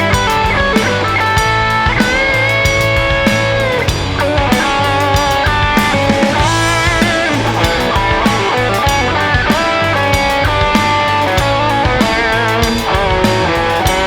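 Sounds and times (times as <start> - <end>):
bass guitar: 0.0 - 14.0
electric lead guitar melody: 0.0 - 14.0
steady drum beat: 0.0 - 14.0.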